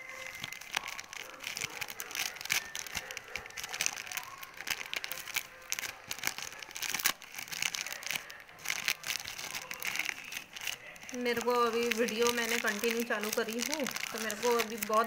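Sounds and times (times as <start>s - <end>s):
plastic bag crinkling: 0.0s - 15.0s
plastic bag snapping: 0.0s - 15.0s.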